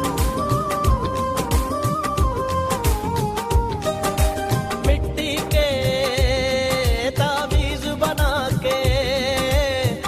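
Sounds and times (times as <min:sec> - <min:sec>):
film-style music with drum beat: 0:00.0 - 0:10.0.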